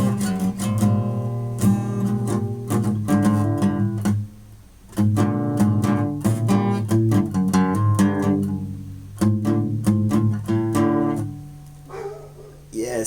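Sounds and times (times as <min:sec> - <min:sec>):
guitar strumming chords: 0:00.0 - 0:12.7.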